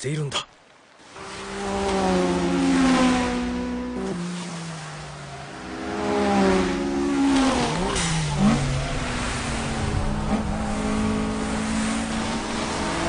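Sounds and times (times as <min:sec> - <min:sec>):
racing car engines revving: 0:01.0 - 0:13.0.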